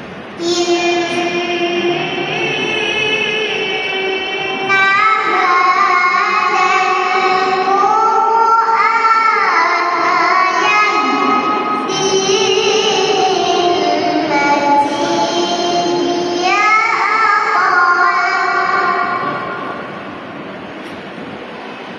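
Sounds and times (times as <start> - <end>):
girl reciting melodically: 0.4 - 20.4.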